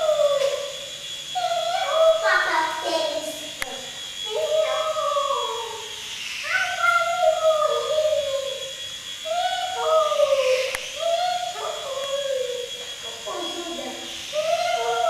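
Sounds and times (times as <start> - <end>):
dog howling: 0.0 - 15.0.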